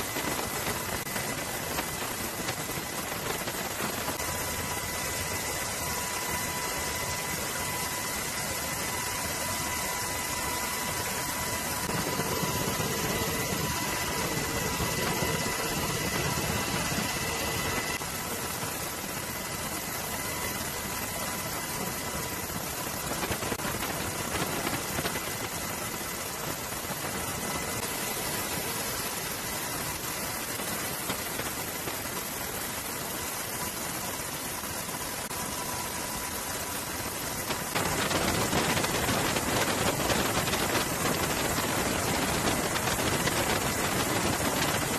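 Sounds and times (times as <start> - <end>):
engine drone: 0.0 - 44.9
faint steady whine: 0.0 - 44.9.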